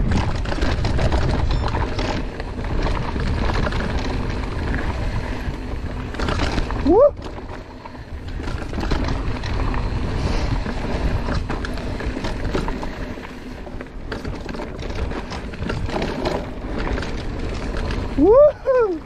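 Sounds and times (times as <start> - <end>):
bike rattling over rocks: 0.0 - 19.0
tyres rolling over dirt: 0.0 - 19.0
wind buffeting microphone: 0.0 - 19.0.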